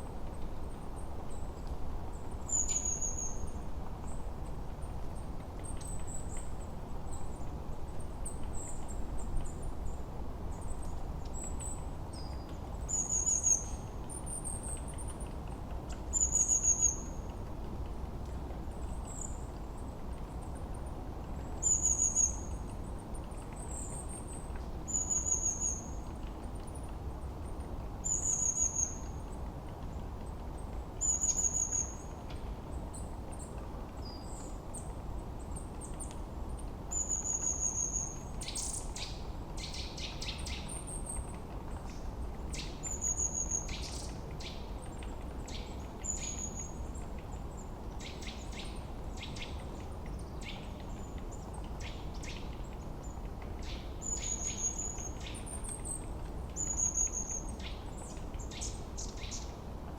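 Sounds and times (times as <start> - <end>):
low rumble of wind: 0.0 - 59.9.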